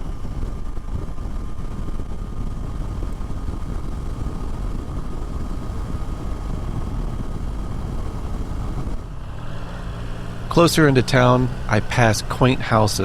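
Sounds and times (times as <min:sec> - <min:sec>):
motorcycle engine and road rumble: 0:00.0 - 0:13.0.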